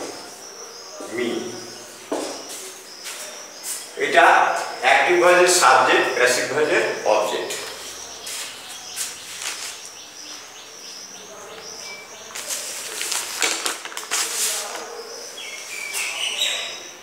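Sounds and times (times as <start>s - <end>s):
high insect chirping: 0.0s - 17.0s.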